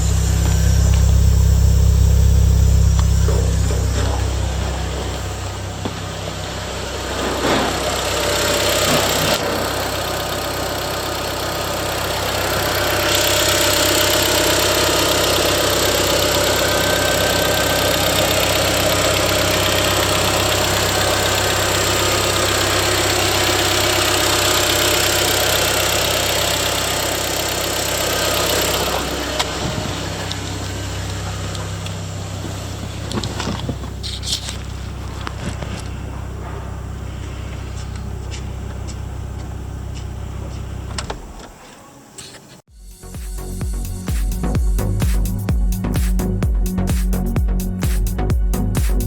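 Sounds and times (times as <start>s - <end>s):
car engine idling: 0.0s - 41.6s, 42.7s - 49.0s.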